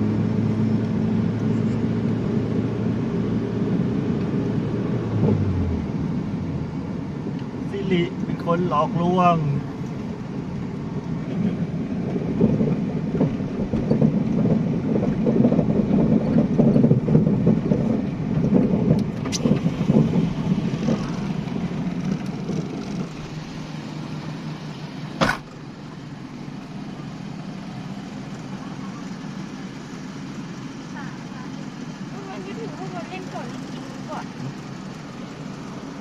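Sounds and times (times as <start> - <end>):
car engine and tyre rumble: 0.0 - 36.0.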